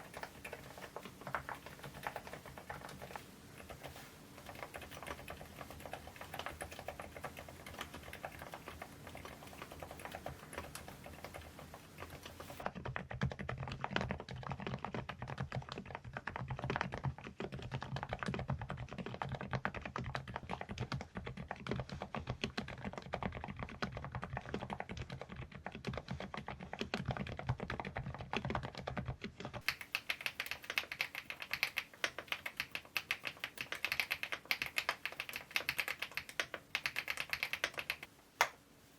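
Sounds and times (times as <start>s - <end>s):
mechanical keyboard typing: 0.0s - 38.6s.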